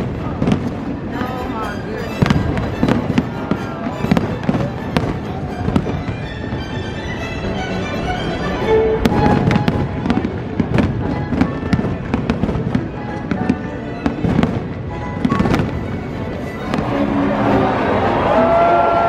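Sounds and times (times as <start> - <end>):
fireworks bangs and crackles: 0.0 - 6.8, 9.0 - 19.0
music playing: 1.0 - 19.0.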